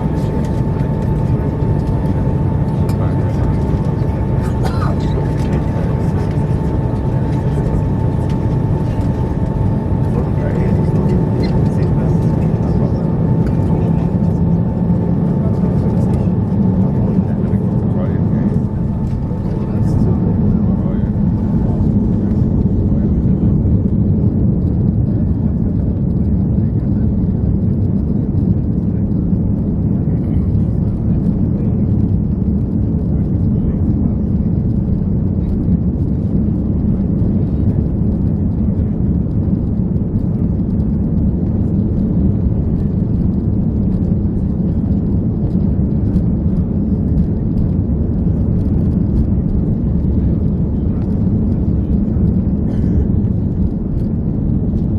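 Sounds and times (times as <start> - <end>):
jet engine roar: 0.0 - 54.9.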